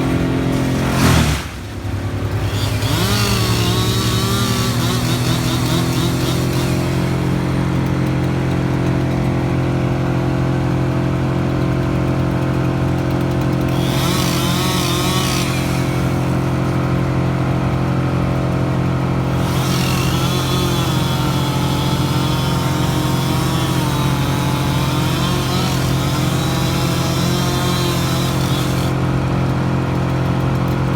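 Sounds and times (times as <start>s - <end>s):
engine machinery running: 0.0s - 30.9s.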